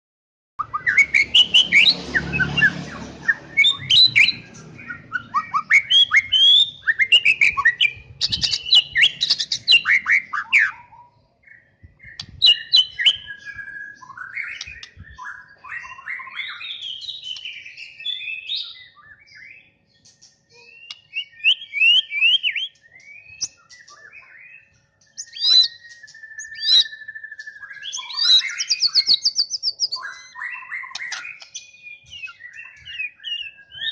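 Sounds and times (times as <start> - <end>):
songbird whistling and trilling: 0.6 - 33.9.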